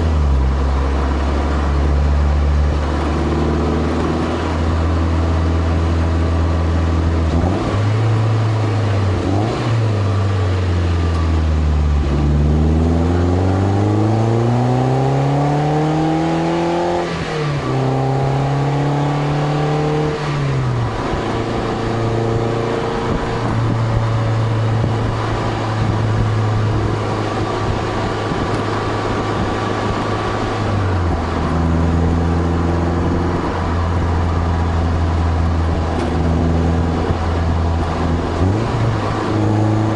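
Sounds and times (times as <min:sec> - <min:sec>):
car exhaust accelerating: 0:00.0 - 0:39.9
tyre and road noise: 0:00.0 - 0:39.9.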